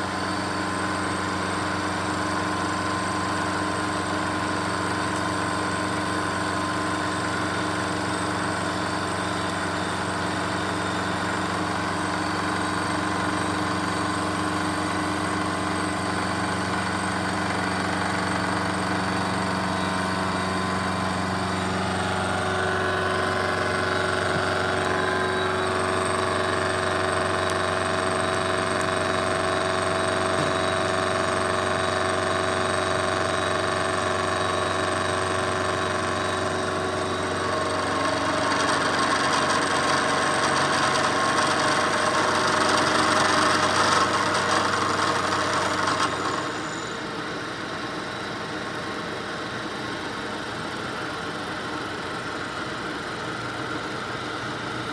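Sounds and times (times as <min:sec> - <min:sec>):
milling machine cutting metal: 0:00.1 - 0:47.2.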